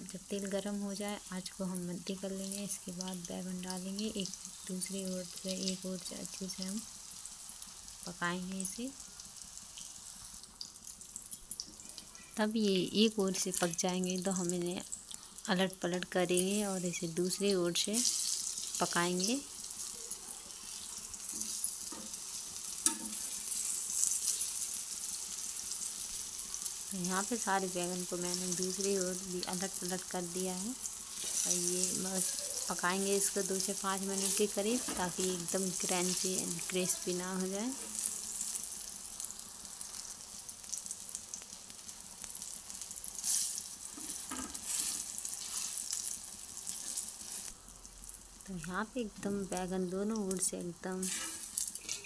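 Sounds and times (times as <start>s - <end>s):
eggplant sizzling in oil: 0.0s - 52.0s.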